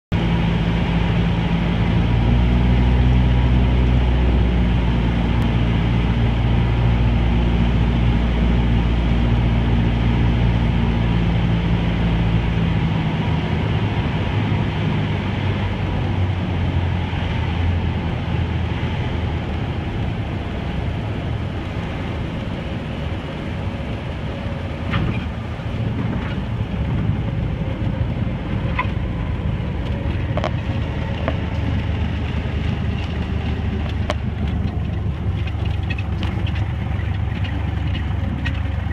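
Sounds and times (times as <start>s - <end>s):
propeller plane engine: 0.1s - 38.9s
wind noise: 0.2s - 38.9s.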